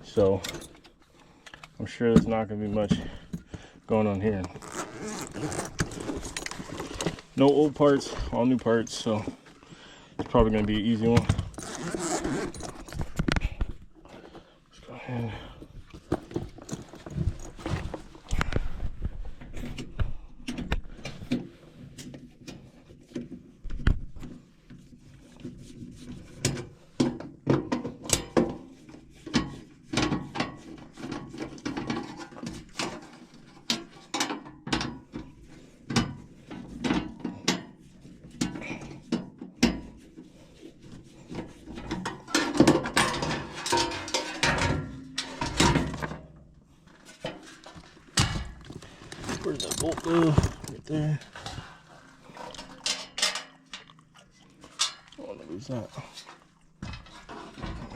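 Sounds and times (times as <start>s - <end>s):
clatter of tools and metal parts: 0.0s - 57.9s.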